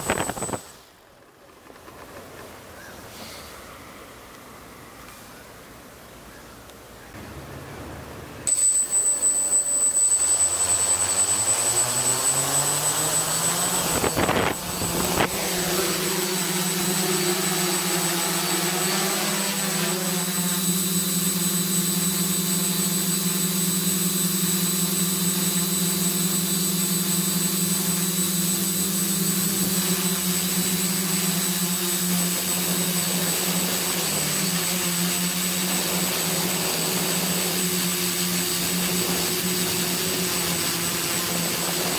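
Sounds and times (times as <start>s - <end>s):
drone propellers buzzing: 0.0s - 0.8s, 8.5s - 41.9s.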